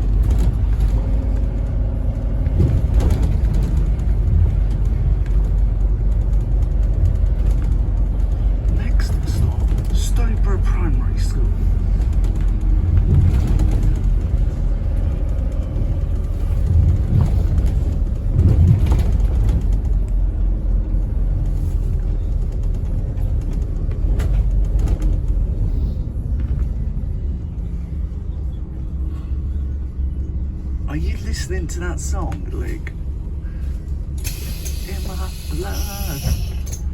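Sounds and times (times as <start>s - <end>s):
bus engine and road rumble: 0.0s - 36.9s.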